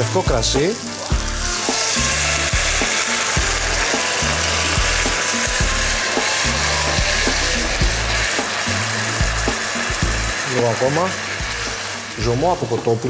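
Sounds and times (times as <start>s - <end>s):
background music with steady beat: 0.0s - 13.0s
wine sizzling in hot pot: 0.0s - 13.0s.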